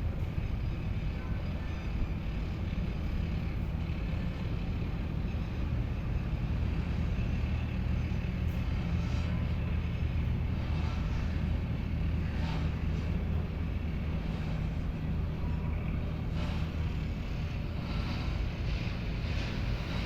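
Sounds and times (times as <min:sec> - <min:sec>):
low motor drone: 0:00.0 - 0:20.0.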